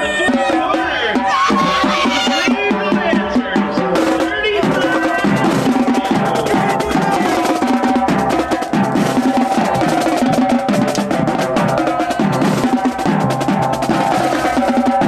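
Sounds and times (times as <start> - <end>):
drumline playing: 0.0 - 15.0.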